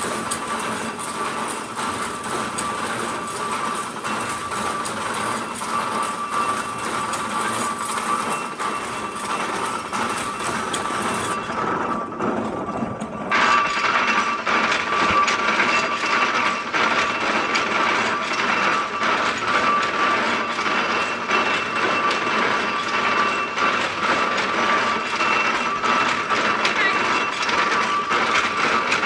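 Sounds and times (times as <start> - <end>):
loom mechanical clatter: 0.0 - 29.0.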